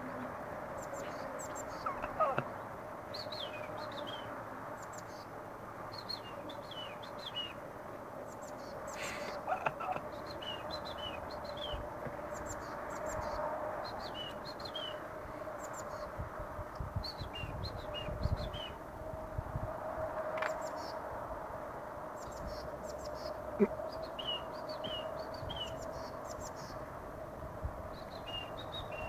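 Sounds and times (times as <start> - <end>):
songbird singing high chirps: 0.7 - 7.6, 8.2 - 16.2, 16.8 - 18.8, 20.4 - 21.0, 22.2 - 26.9, 27.9 - 29.0.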